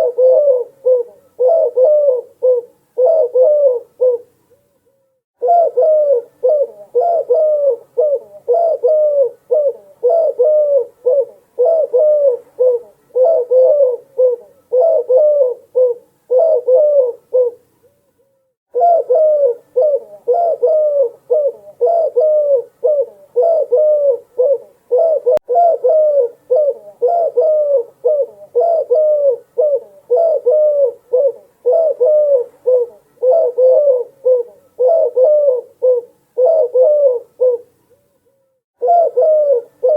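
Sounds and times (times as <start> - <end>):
dove cooing: 0.0 - 4.4, 5.4 - 17.7, 18.7 - 37.8, 38.8 - 39.9.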